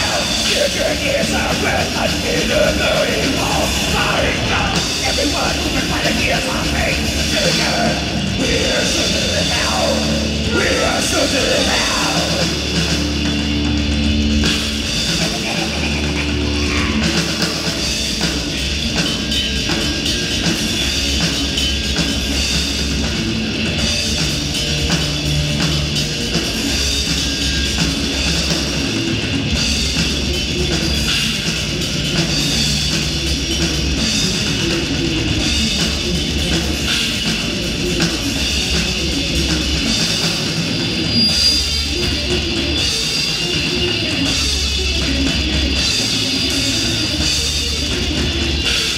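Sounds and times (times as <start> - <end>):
bass guitar: 0.0 - 48.9
distorted electric guitars: 0.0 - 48.9
pounding drum kit: 0.0 - 48.9.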